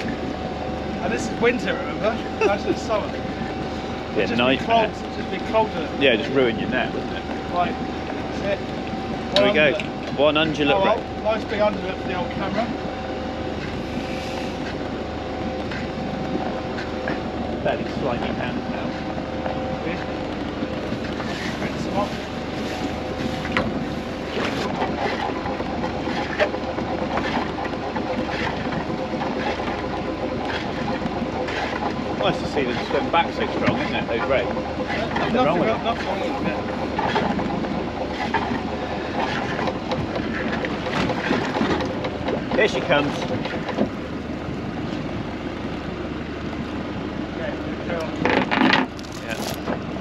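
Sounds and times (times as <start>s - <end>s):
boat engine idling: 0.0s - 50.0s
wind: 0.0s - 50.0s.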